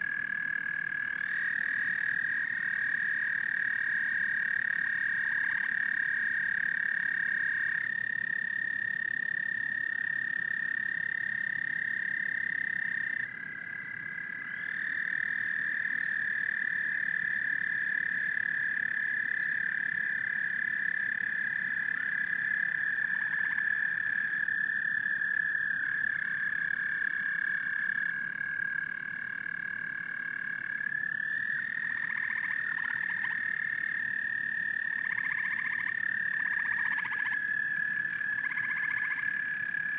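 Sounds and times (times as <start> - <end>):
frogs trilling: 0.0 - 39.9.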